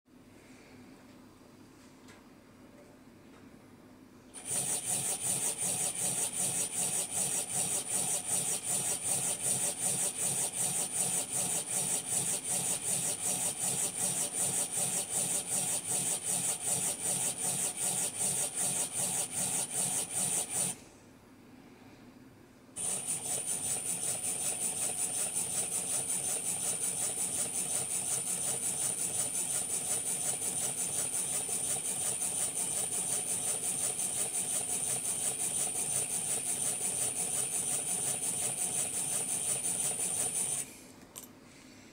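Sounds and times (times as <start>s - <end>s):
model locomotive motor whine: 4.4s - 20.8s, 22.8s - 40.7s.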